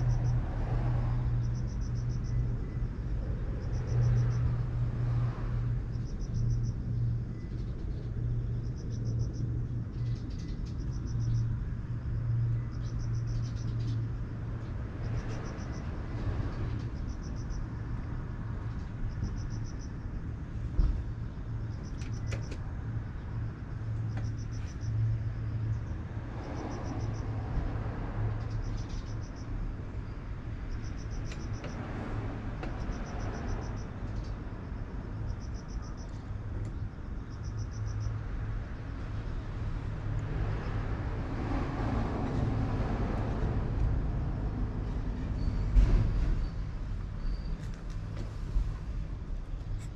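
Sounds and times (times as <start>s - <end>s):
low outdoor rumble: 0.0s - 49.9s.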